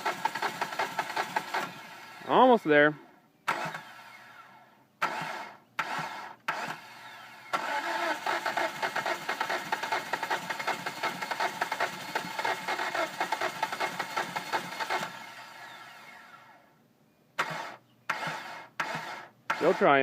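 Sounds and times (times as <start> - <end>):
engine cranking on starter: 0.0 - 2.5, 3.4 - 16.7, 17.4 - 20.0.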